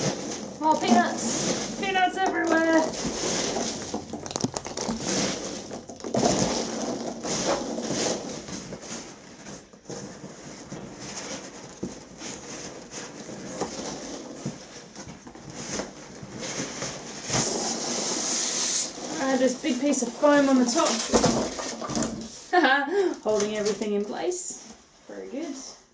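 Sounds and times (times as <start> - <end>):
foam and cardboard rustling: 0.0 - 25.7.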